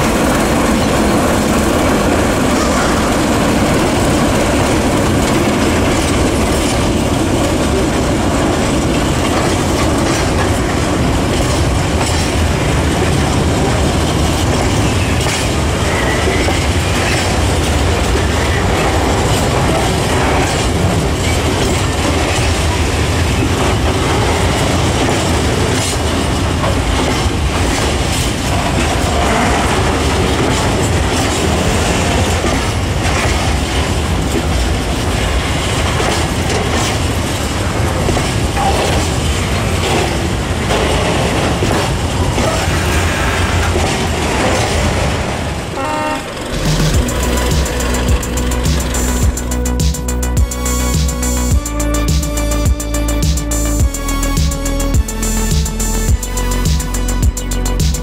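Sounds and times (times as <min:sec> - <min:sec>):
wheels clicking over rail joints: 0:00.0 - 0:49.4
train wheels rumbling on rail: 0:00.0 - 0:58.0.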